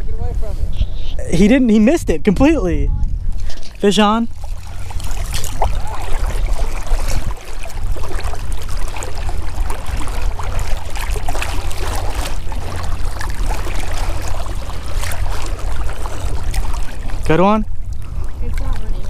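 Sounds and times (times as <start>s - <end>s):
wind rumbling on microphone: 0.0s - 19.0s
choppy water lapping and splashing: 2.2s - 19.0s.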